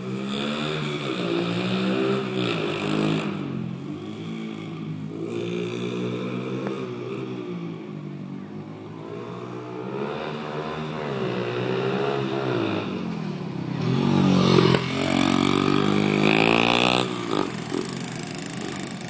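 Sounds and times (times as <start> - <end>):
pit bike engine revving: 0.0 - 7.6, 8.9 - 19.0.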